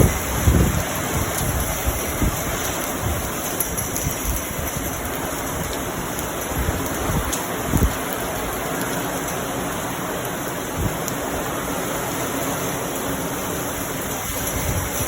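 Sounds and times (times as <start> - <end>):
hiss of rushing water: 0.0 - 15.0.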